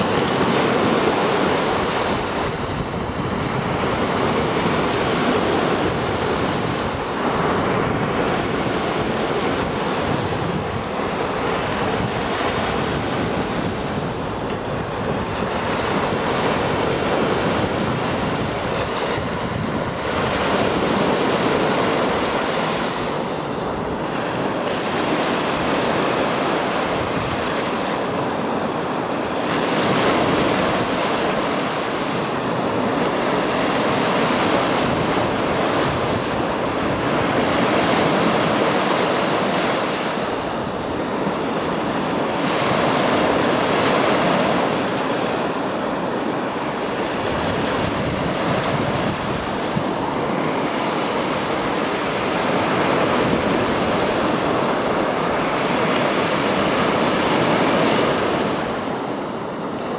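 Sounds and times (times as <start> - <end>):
waves washing up on shore: 0.0 - 59.9.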